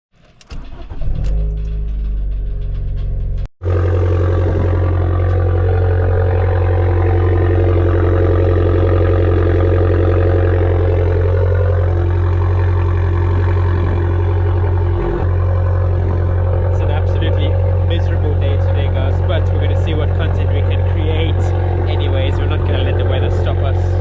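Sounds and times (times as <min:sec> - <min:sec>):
car engine idling: 0:00.2 - 0:24.0.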